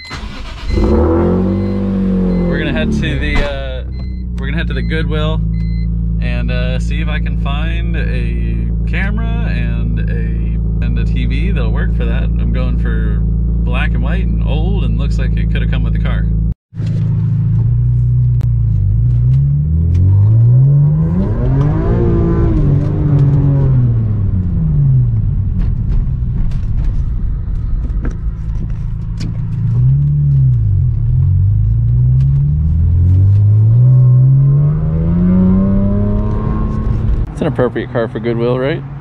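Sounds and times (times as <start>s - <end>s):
car engine accelerating and slowing: 0.2s - 39.0s.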